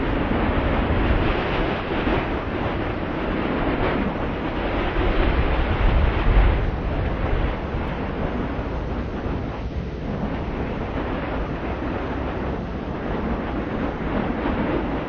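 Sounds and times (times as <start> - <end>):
strong wind rushing: 0.0 - 15.0
wind buffeting microphone: 0.0 - 15.0.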